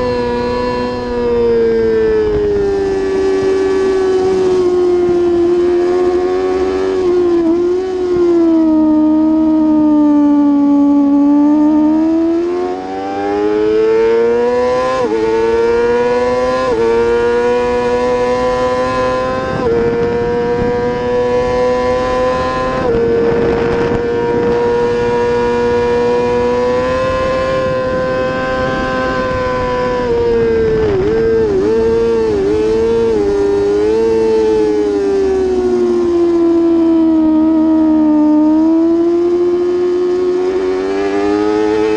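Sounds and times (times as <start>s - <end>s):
motorbike engine at full throttle: 0.0s - 41.9s.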